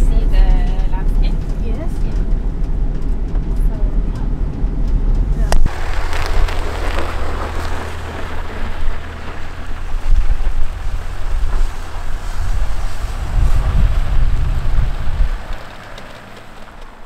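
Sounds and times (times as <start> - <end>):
van engine driving away: 0.0 - 17.0
wind buffeting microphone: 0.0 - 17.0.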